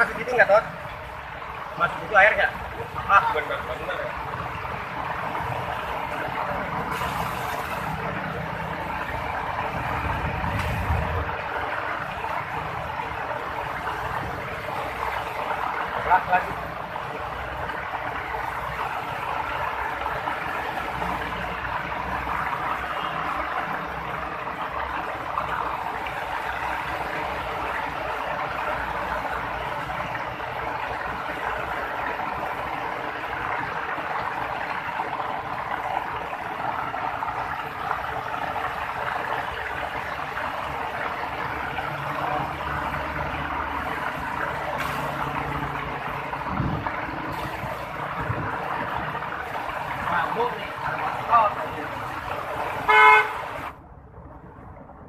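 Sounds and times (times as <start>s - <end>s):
heavy rain falling: 0.0s - 53.8s
low engine rumble: 0.0s - 55.0s
vehicles driving through floodwater: 0.0s - 55.0s.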